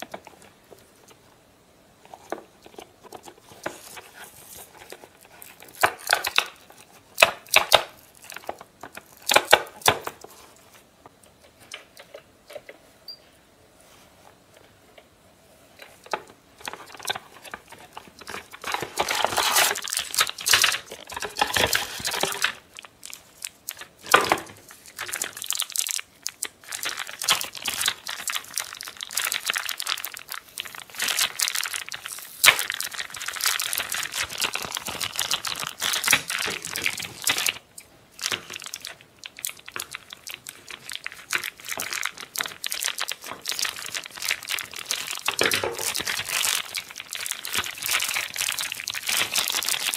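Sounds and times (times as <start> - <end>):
plastic packaging crinkling: 0.0 - 1.2, 2.0 - 10.8, 15.8 - 49.9.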